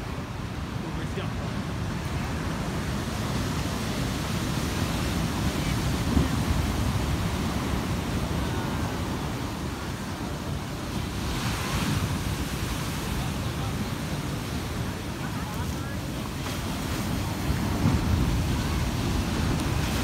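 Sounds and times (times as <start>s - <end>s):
surf breaking on rocky shore: 0.0s - 20.0s
wind rumble on microphone: 0.0s - 20.0s.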